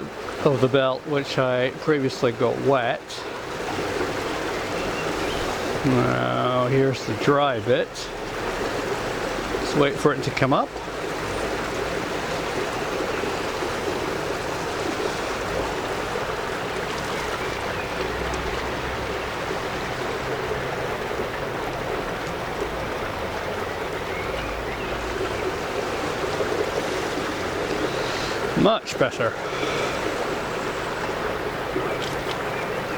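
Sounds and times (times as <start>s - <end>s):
water rushing through mill wheel: 0.0s - 32.9s.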